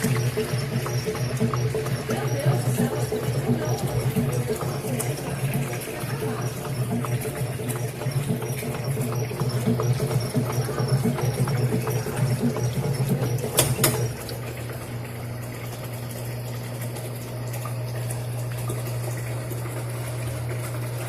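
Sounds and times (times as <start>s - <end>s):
washing machine motor hum: 0.0s - 21.0s
water moving inside machine: 0.0s - 21.0s.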